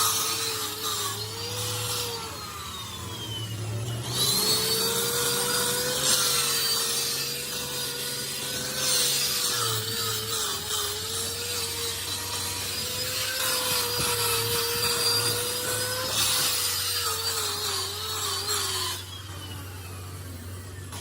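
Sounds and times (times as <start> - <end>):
power tool grinding metal: 0.0 - 21.0.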